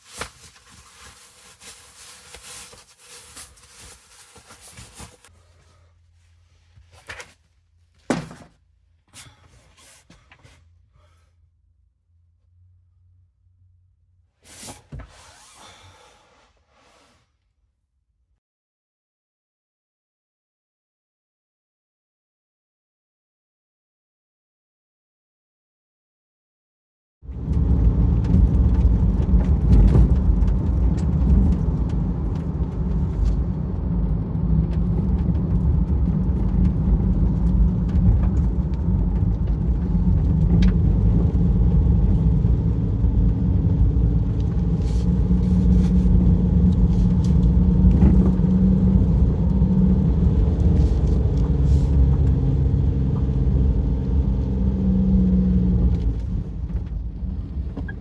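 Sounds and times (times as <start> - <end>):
vehicle engine and road rumble: 0.0 - 16.2, 27.3 - 58.0.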